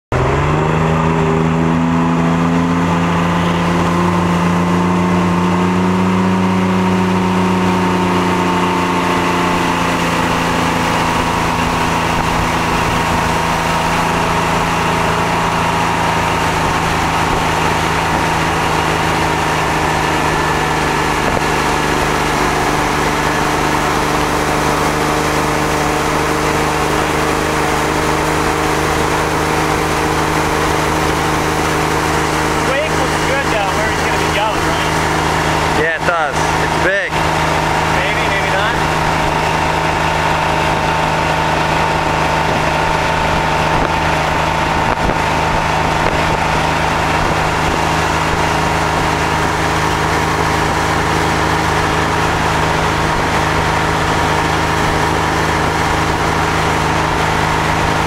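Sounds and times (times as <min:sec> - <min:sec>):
boat engine speeding up: 0:00.0 - 0:58.0.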